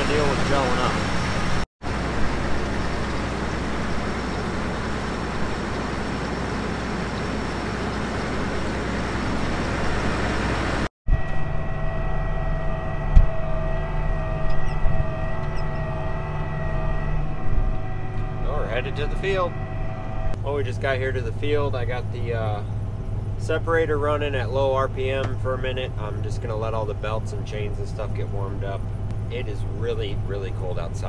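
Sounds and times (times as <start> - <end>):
diesel engine running: 0.0 - 31.0
engine hum and whine in cab: 0.0 - 31.0.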